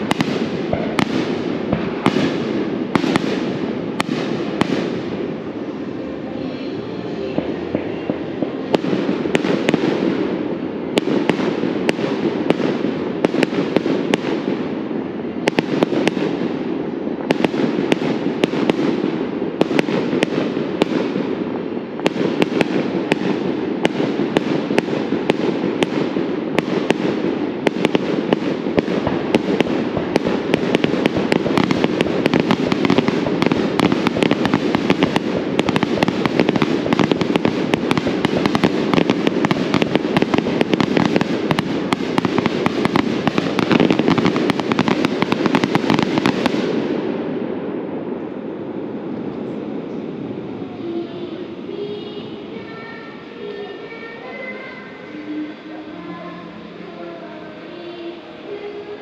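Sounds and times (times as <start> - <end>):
fireworks bangs: 0.0 - 50.5
steady rumble: 0.0 - 51.4.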